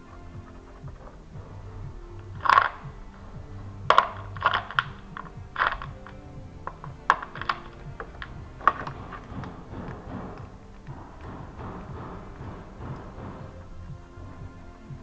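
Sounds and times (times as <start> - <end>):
background music: 0.0 - 15.0
hand tools clanking on metal: 0.0 - 15.0.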